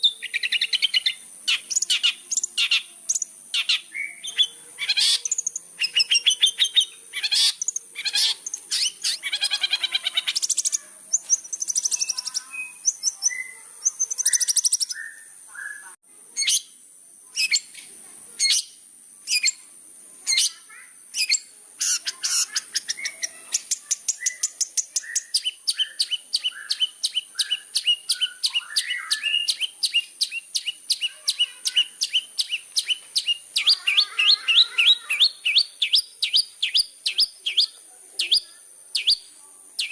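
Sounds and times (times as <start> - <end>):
shrike singing chattering song: 0.0 - 39.9.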